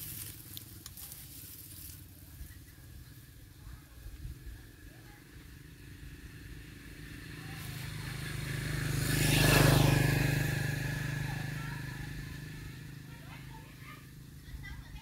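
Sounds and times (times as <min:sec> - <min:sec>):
motorbike passing: 0:00.0 - 0:15.0.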